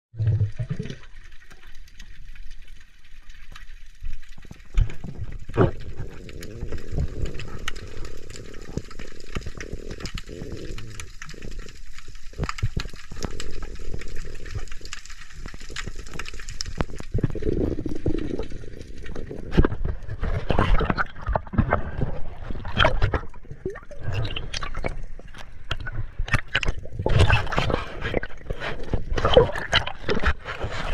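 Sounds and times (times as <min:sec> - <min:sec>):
underwater gurgling water: 0:00.2 - 0:30.9
underwater clicks and knocks: 0:03.4 - 0:30.9.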